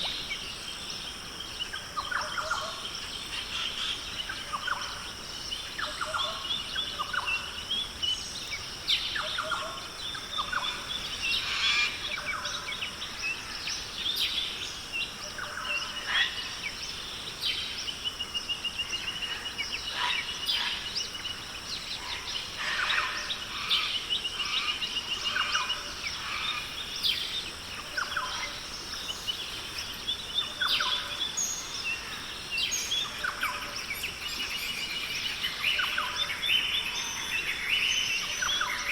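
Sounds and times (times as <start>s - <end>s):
birds calling: 0.0s - 38.9s.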